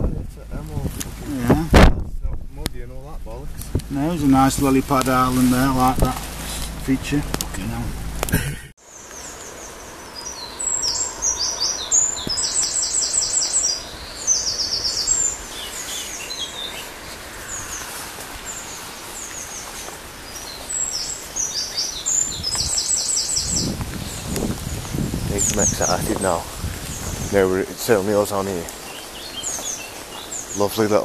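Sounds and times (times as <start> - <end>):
songbirds chirping: 0.0 - 31.0
steady outdoor hiss: 0.0 - 31.0.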